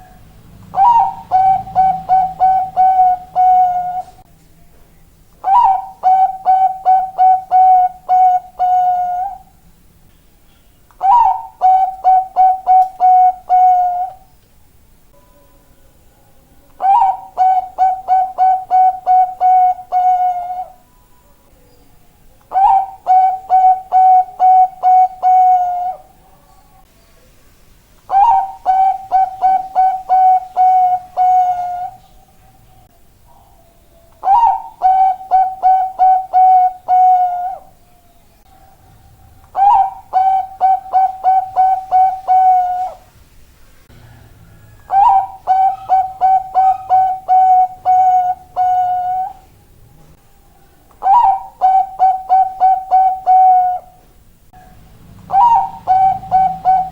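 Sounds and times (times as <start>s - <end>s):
dove cooing: 0.0s - 4.3s, 5.4s - 9.6s, 11.0s - 14.3s, 16.7s - 20.9s, 22.5s - 26.9s, 28.1s - 32.6s, 33.3s - 43.1s, 44.0s - 56.9s.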